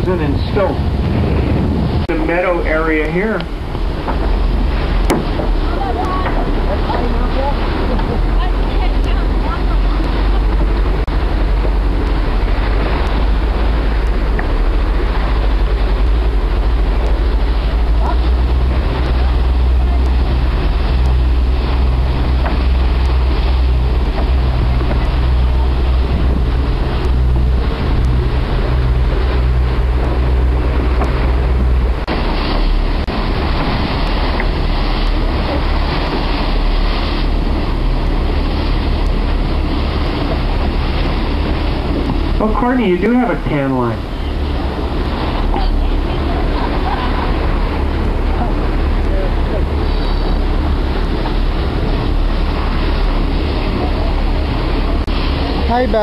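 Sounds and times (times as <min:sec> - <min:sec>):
boat engine humming: 0:00.0 - 0:56.0
rushing water: 0:00.0 - 0:56.0
wind buffeting microphone: 0:00.0 - 0:56.0.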